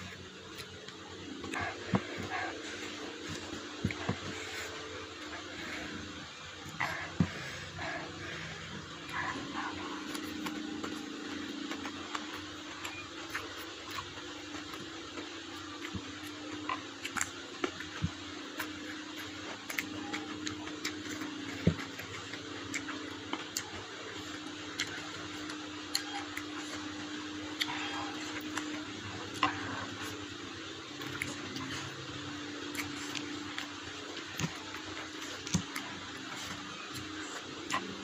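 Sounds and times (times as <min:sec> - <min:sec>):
chewing and lip-smacking: 0:00.0 - 0:38.0
steady low hum: 0:00.0 - 0:38.0.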